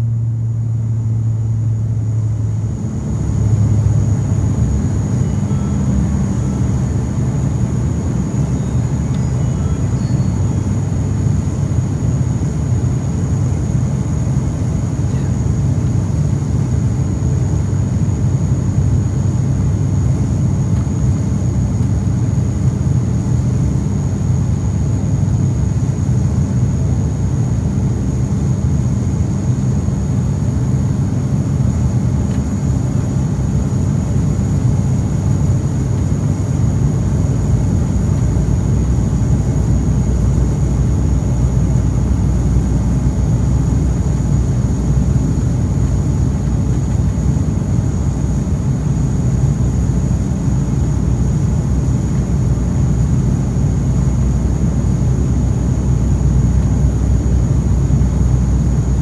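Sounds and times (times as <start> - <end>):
high engine whine: 0.0 - 59.0
turboprop engine drone: 0.0 - 59.0.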